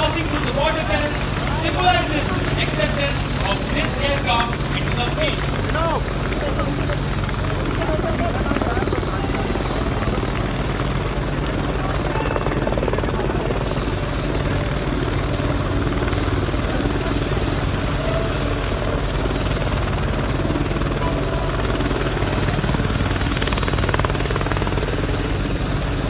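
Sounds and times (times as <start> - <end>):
helicopter turbine whine: 0.0 - 26.0.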